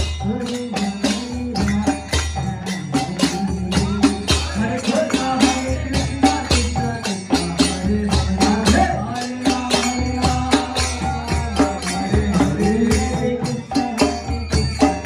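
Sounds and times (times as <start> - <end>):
devotional chanting: 0.0 - 15.0
drum jingling: 0.0 - 15.0
hand cymbals: 0.0 - 15.0.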